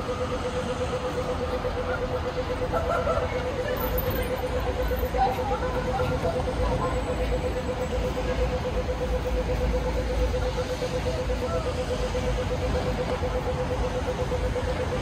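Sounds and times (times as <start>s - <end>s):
rapid even beeping: 0.0s - 15.0s
traffic rumble: 0.0s - 15.0s.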